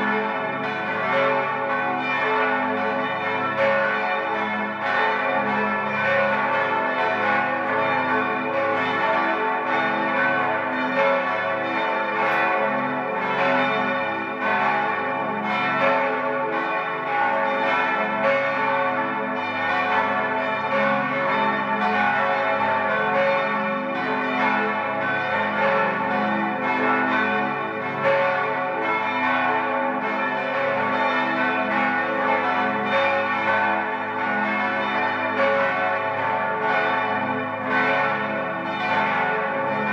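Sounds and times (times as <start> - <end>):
church bells ringing in a peal: 0.0 - 39.9.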